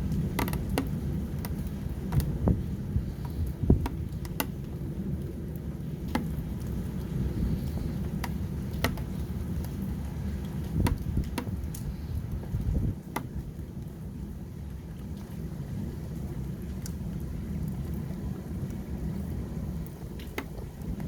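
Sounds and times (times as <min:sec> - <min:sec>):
raindrops ticking: 0:00.0 - 0:21.0
storm rain: 0:00.0 - 0:21.0
wind buffeting microphone: 0:00.0 - 0:21.0.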